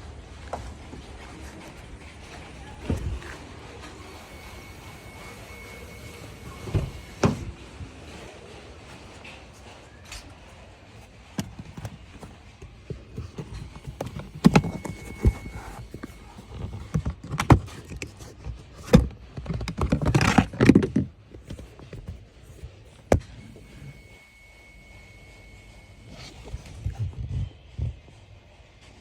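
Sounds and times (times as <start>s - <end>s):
scraping and rustling: 0.3s - 24.1s.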